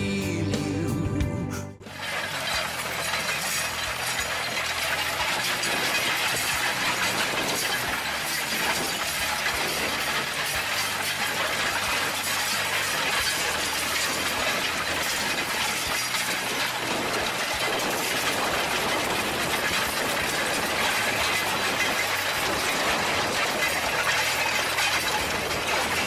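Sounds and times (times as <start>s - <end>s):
tractor engine running: 0.0s - 26.0s
seed drill clattering over stones: 1.8s - 26.0s.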